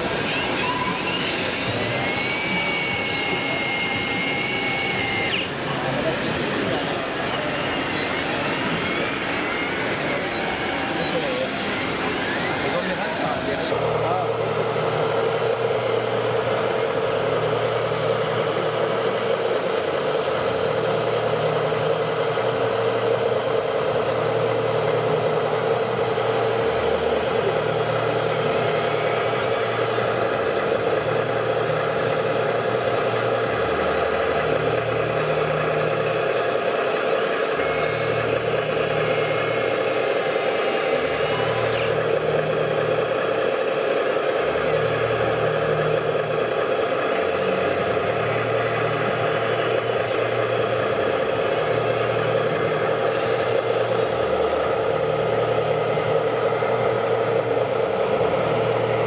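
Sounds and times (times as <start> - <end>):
model loader mechanical whine: 0.0 - 59.0.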